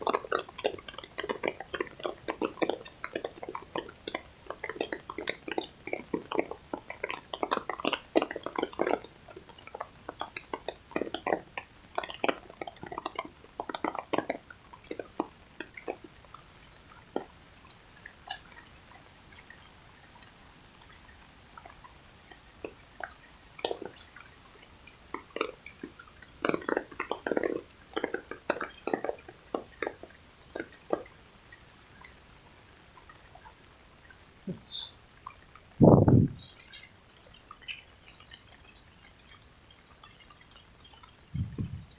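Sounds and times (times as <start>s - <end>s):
faint rain hiss: 0.0s - 41.9s
water dripping and splashing: 0.0s - 41.9s.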